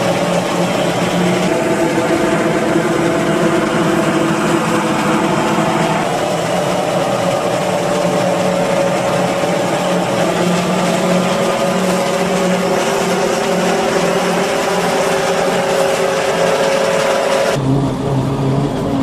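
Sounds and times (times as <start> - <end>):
forage harvester engine and chopper: 0.0 - 19.0
high machine whine: 0.0 - 19.0.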